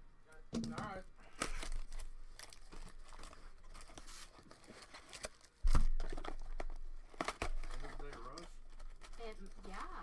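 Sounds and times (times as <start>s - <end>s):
packaging tearing and crinkling: 1.3s - 9.8s
cards rustling: 1.3s - 10.0s.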